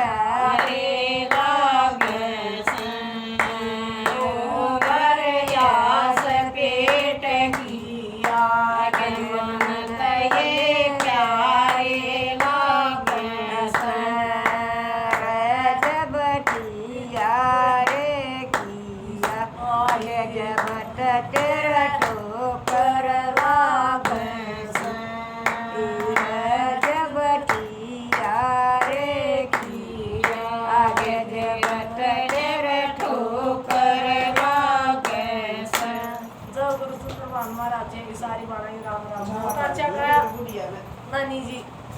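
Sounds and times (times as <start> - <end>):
woman singing devotional song: 0.0 - 41.9
hand claps: 0.4 - 37.6.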